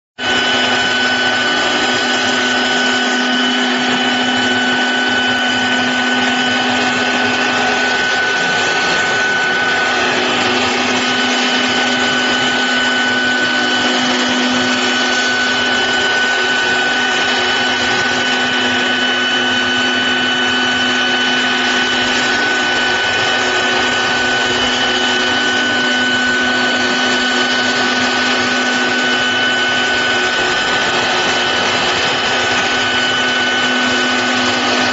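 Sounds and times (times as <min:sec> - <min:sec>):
router spindle whine: 0:00.2 - 0:34.9.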